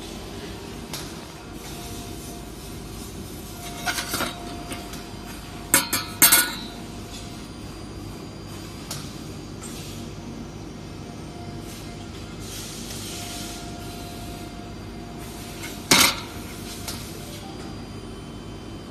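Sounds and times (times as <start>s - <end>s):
steady background hum: 0.0s - 18.9s.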